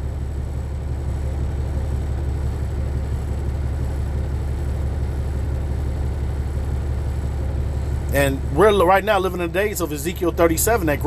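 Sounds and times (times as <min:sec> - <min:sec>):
low rumbling hum: 0:00.0 - 0:11.0.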